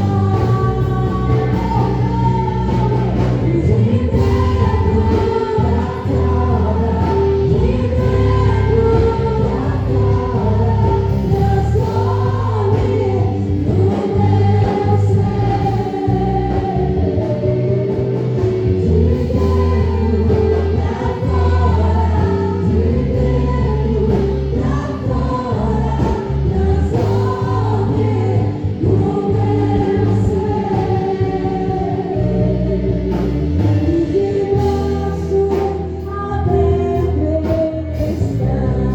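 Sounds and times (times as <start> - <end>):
sustained bass notes: 0.0 - 38.9
voices singing gospel song: 0.0 - 38.9.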